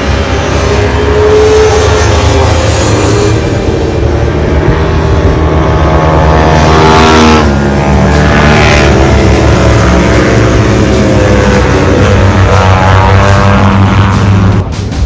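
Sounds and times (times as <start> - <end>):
low rumble: 0.0 - 15.0
racing motorcycle engines: 0.0 - 15.0.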